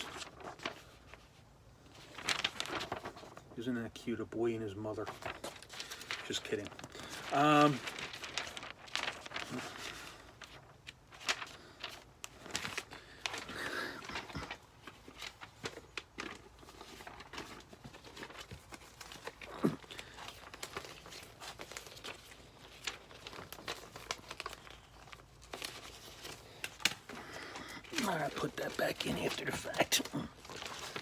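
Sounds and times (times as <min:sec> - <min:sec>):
paper rustling and crinkling: 0:00.0 - 0:31.0.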